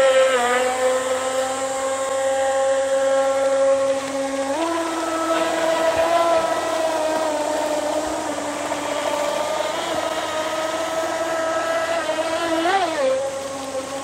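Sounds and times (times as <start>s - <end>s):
model speedboat motor: 0.0s - 14.0s.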